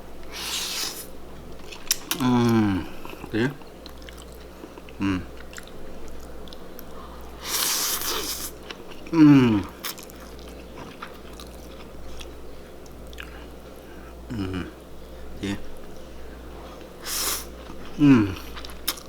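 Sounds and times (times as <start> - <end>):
biting and chewing: 1.5 - 13.9, 15.8 - 19.0.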